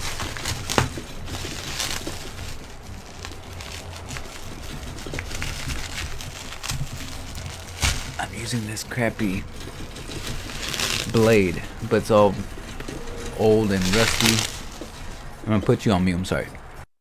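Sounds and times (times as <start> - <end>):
blade scraping through packaging: 0.0 - 15.3.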